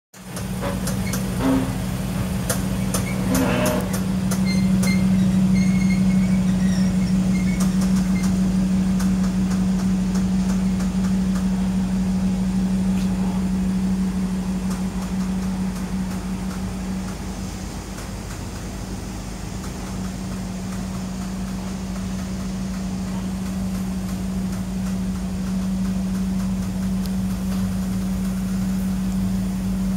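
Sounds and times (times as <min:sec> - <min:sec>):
car engine idling: 0:00.2 - 0:29.9.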